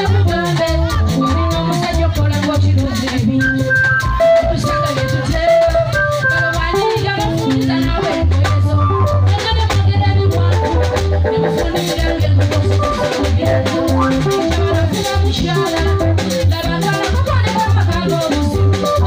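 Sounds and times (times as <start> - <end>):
band music through pa: 0.0 - 19.0
drums: 0.0 - 19.0
electric guitar: 0.0 - 19.0
pulsing bass line: 0.0 - 19.0
woman singing: 0.0 - 19.0.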